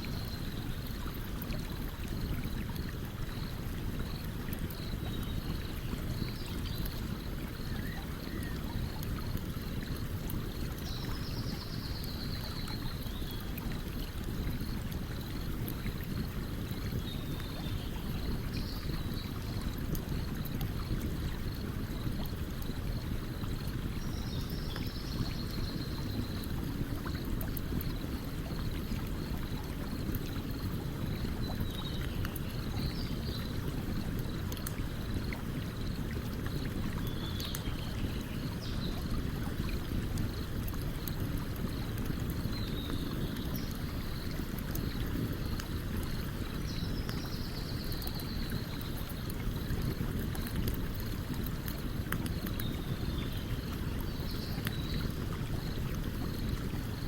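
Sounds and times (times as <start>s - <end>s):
stream water running: 0.0s - 57.0s
faint campfire crackling: 0.1s - 57.0s.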